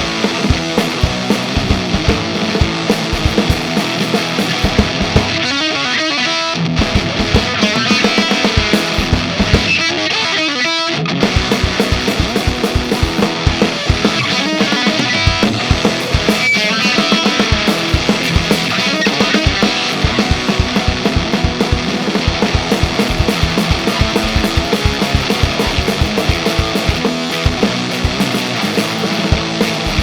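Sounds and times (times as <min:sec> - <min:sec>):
drum kit fast beat: 0:00.0 - 0:05.5, 0:06.8 - 0:09.9, 0:11.2 - 0:30.0
fuzzed electric guitar riff: 0:00.0 - 0:30.0.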